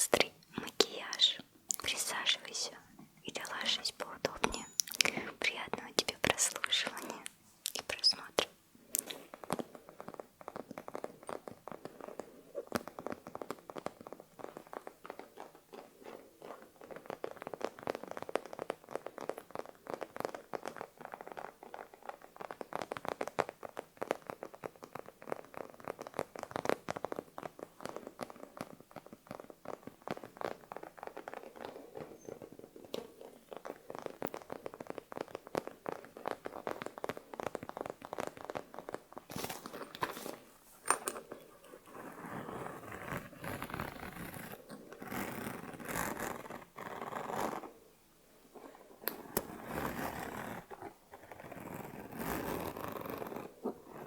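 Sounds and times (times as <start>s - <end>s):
soft clicks and crackles: 0.0s - 54.0s.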